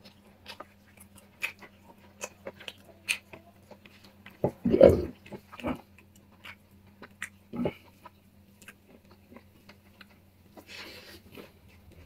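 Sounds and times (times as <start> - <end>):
person chewing and smacking lips: 0.0 - 12.0.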